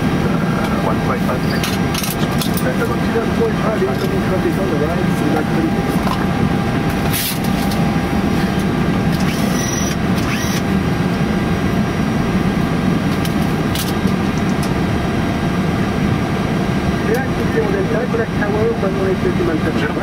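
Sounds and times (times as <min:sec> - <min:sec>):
aircraft engines idling: 0:00.0 - 0:20.0
cockpit air conditioning: 0:00.0 - 0:20.0.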